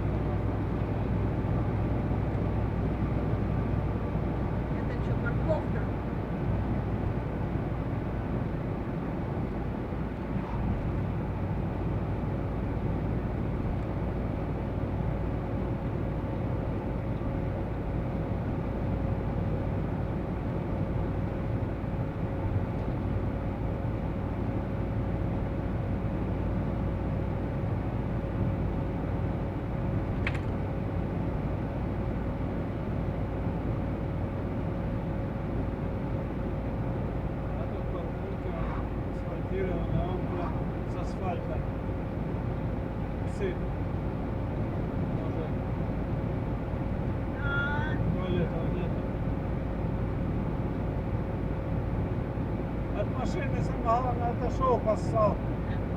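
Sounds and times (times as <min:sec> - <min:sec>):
van engine and road noise: 0:00.0 - 0:55.9.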